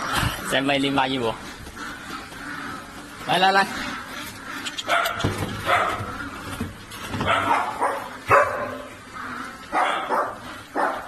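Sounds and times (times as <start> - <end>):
puppies yipping and barking: 0.0 - 11.0.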